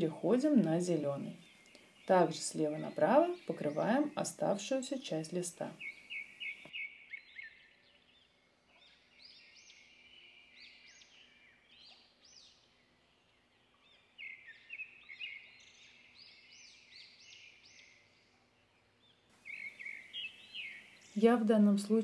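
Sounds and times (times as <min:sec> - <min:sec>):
faint birds twittering: 0:00.0 - 0:22.0.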